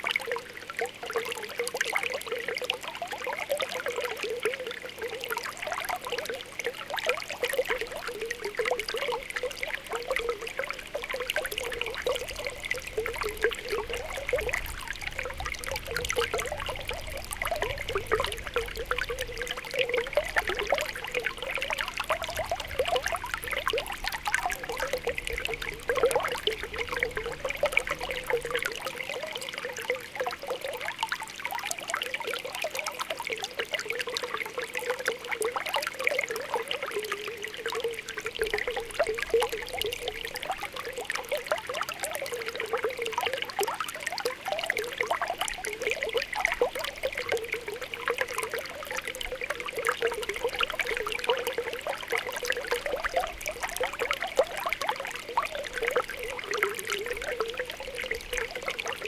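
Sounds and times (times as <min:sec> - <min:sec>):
bubbles popping and gurgling: 0:00.0 - 0:59.0
water trickling: 0:00.0 - 0:59.0.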